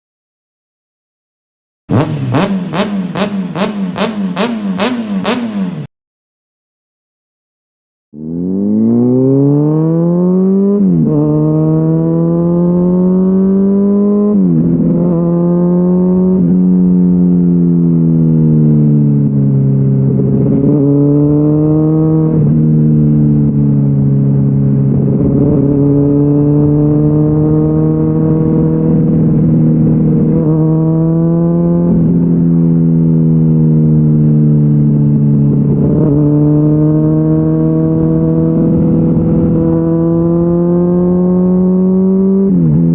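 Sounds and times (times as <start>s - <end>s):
motorcycle engine revving through gears: 1.9s - 5.9s, 8.1s - 42.9s.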